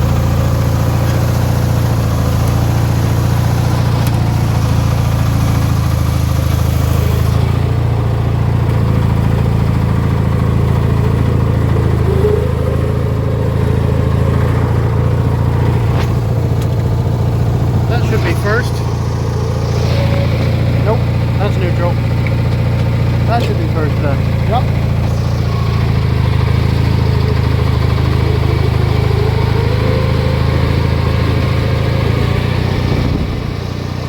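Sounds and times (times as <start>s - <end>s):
riding mower engine running: 0.0s - 34.0s.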